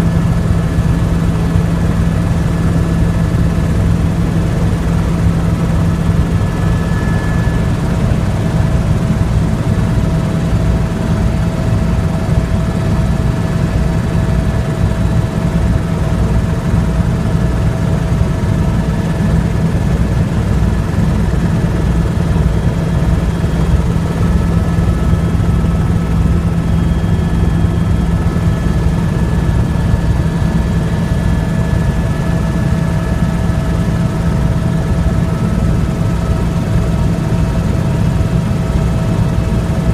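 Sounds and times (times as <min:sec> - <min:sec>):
helicopter rotor blades beating: 0:00.0 - 0:39.9
turbine engine whine: 0:00.0 - 0:39.9.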